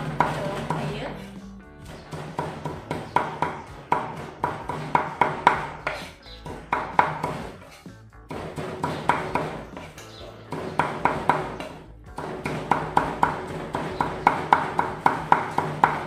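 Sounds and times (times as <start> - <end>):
knife chopping on wooden block: 1.9 - 16.0.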